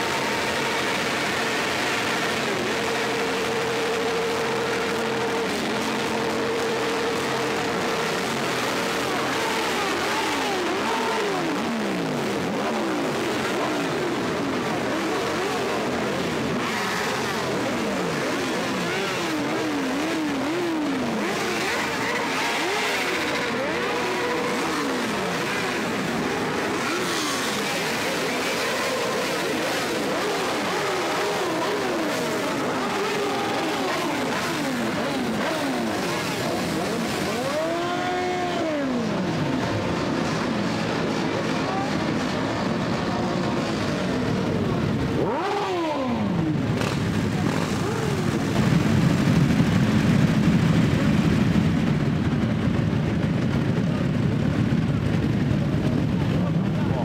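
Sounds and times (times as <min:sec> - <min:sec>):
motorcycles revving: 0:00.0 - 0:57.0.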